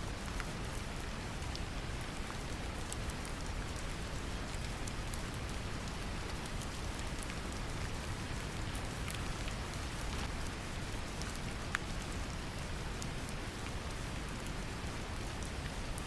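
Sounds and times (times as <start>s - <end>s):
brown noise rumbling hiss: 0.0s - 16.0s.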